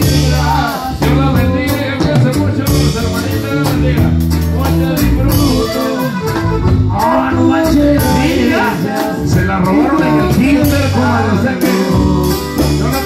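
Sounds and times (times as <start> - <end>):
accordion: 0.0 - 13.0
bass line: 0.0 - 13.0
drums: 0.0 - 13.0
person singing: 0.0 - 13.0.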